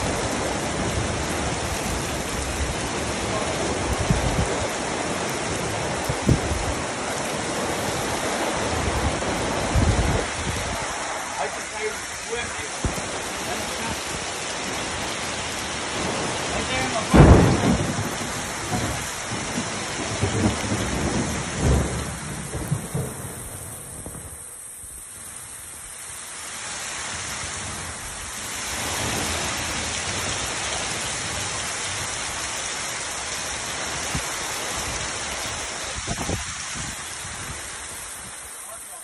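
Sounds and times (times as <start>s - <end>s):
heavy rain hissing: 0.0s - 39.0s.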